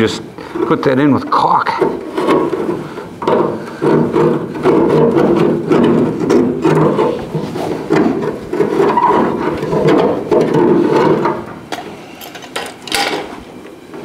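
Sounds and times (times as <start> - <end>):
hand tool scraping sheet metal: 0.5 - 12.2.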